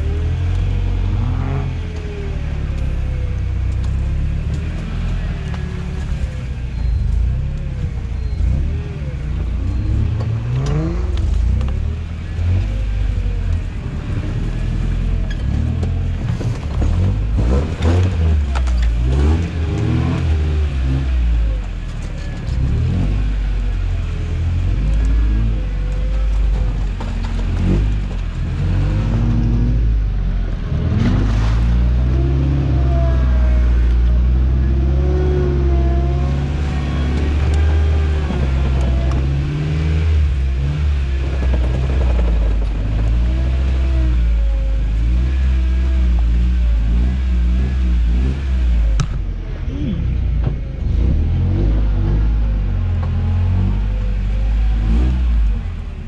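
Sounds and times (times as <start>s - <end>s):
clatter: 0.0s - 29.8s, 36.4s - 56.0s
truck engine running: 0.0s - 56.0s.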